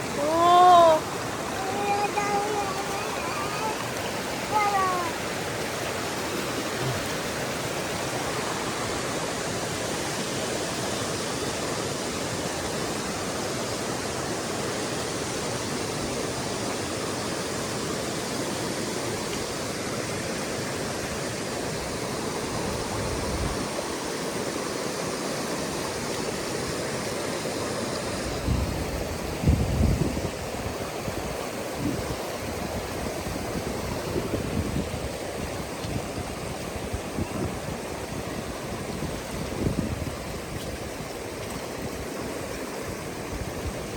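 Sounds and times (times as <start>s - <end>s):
creek water flowing: 0.0s - 43.9s.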